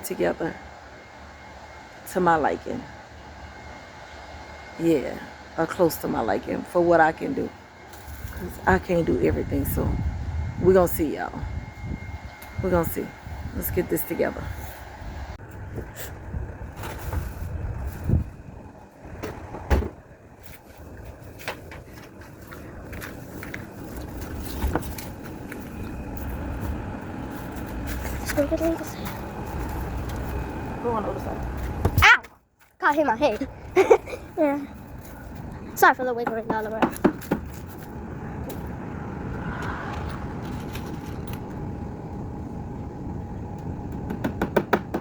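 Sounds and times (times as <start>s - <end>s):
steady low rumble: 4.8s - 32.0s, 32.9s - 44.6s.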